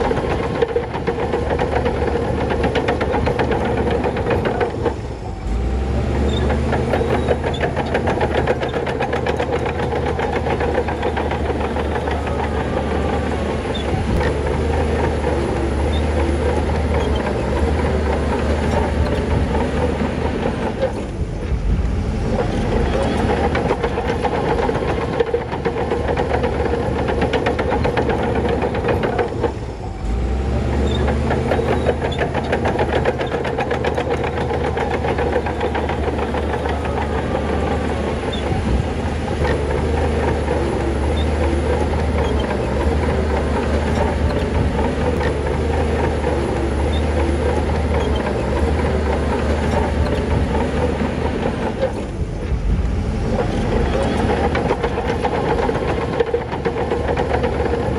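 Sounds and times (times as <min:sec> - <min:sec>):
heavy diesel engine knocking: 0:00.0 - 0:57.9.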